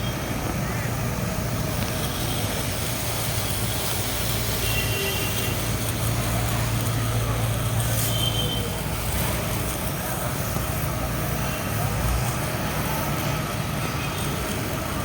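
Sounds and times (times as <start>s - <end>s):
pressure washer humming: 0.0s - 15.0s.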